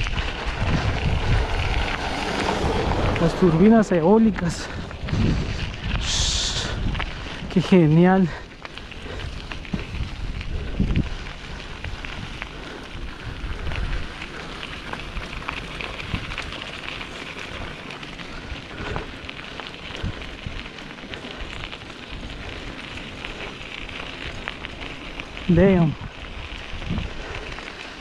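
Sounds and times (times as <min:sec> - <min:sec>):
bike tyres crackling on gravel: 0:00.0 - 0:28.0
wind rumble on microphone: 0:00.0 - 0:28.0.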